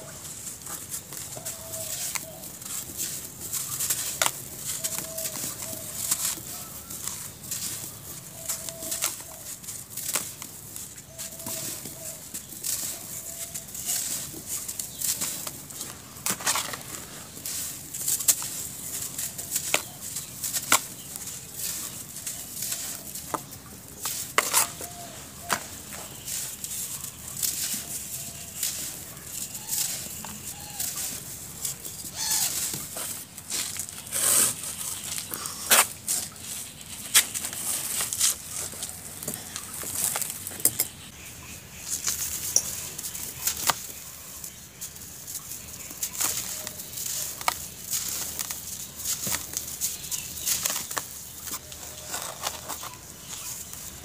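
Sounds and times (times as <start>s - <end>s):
hands crushing dry chunks: 0.0s - 41.1s, 41.9s - 54.0s.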